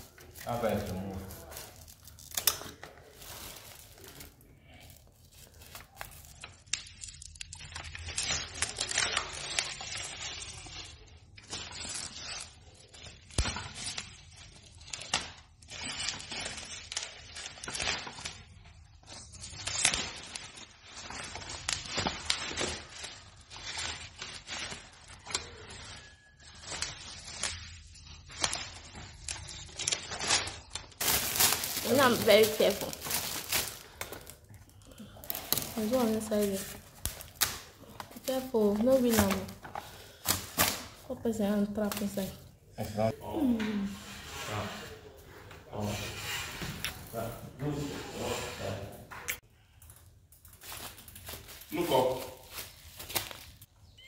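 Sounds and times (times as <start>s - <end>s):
bubble wrap crinkling and tearing: 0.0s - 43.2s, 49.4s - 54.0s.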